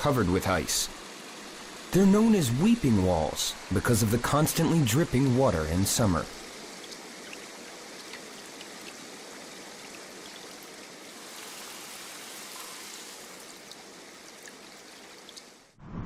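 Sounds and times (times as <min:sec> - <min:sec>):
faint water drips: 0:00.0 - 0:15.8
stream running over stones: 0:00.0 - 0:15.8.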